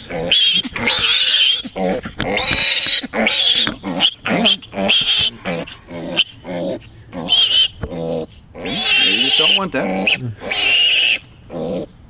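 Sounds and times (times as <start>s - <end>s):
piglet squealing and grunting: 0.0s - 11.9s.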